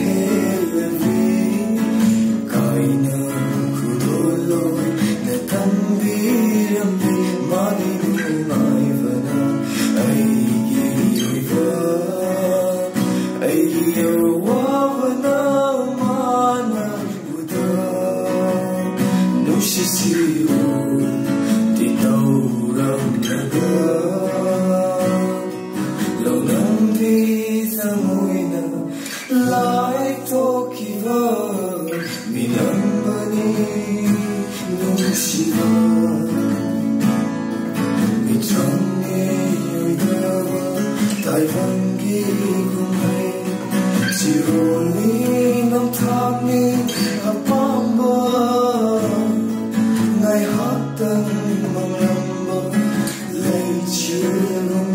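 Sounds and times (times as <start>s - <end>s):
acoustic guitars strummed and picked: 0.0s - 54.9s
man singing slow song: 0.0s - 54.9s.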